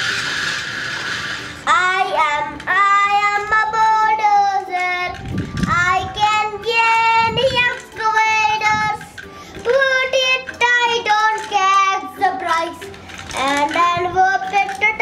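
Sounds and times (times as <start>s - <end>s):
child singing: 1.6s - 15.0s.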